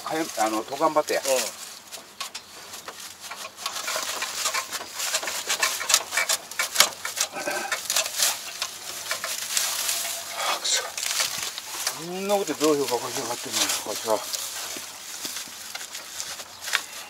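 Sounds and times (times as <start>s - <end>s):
dry straw rustling and crackling: 0.0s - 17.0s.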